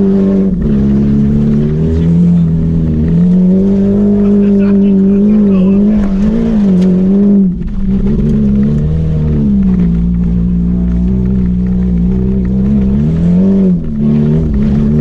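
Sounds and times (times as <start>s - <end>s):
car engine under load: 0.0s - 15.0s.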